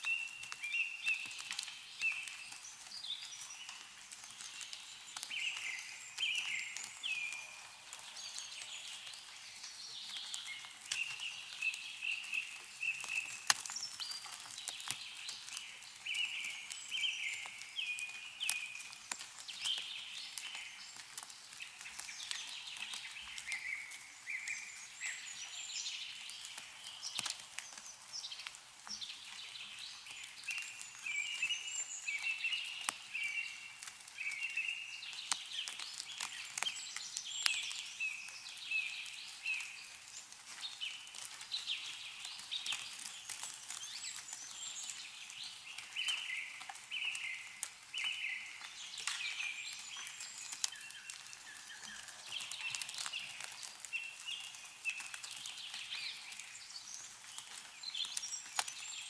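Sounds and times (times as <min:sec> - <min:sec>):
drips of melting snow: 0:00.0 - 0:59.0
songbirds chirping: 0:00.0 - 0:59.0.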